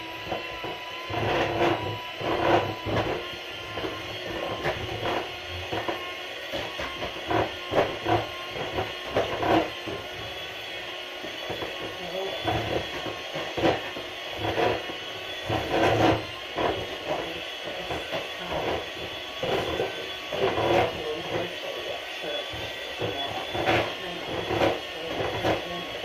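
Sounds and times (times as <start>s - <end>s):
utensil scraping bowl: 0.0s - 26.0s.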